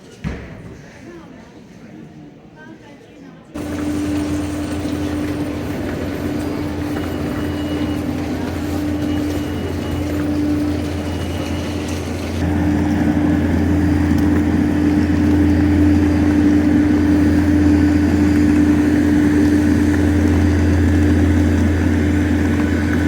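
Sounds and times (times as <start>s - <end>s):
machine hum: 3.6s - 23.0s.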